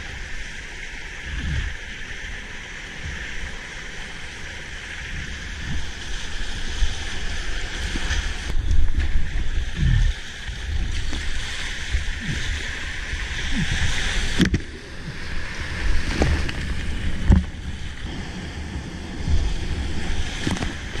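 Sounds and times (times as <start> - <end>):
water splashing around kayak: 0.0 - 21.0.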